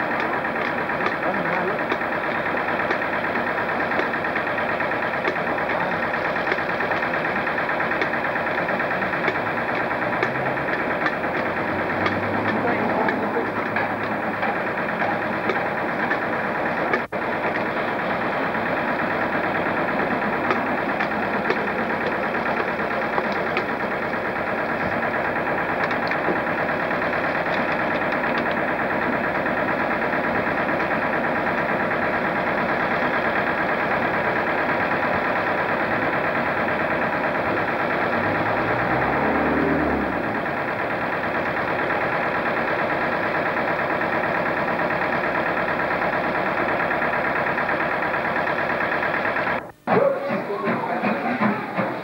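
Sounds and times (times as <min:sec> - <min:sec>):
train running: 0:00.0 - 0:52.0.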